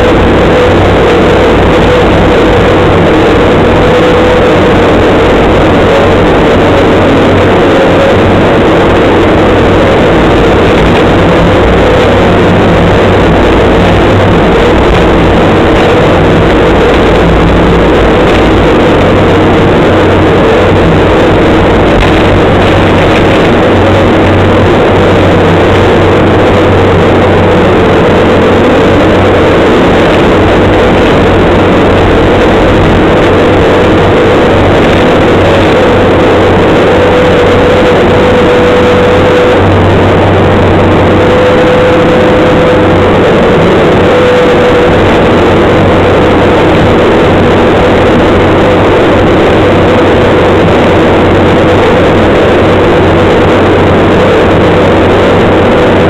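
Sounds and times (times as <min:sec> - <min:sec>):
loader engine running: 0:00.0 - 0:56.0
steady higher tone: 0:00.0 - 0:56.0.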